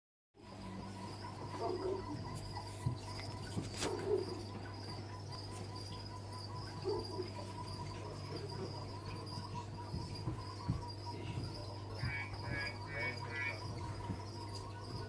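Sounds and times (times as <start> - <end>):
insects trilling: 0.4 - 15.0
steady low hum: 0.4 - 15.0.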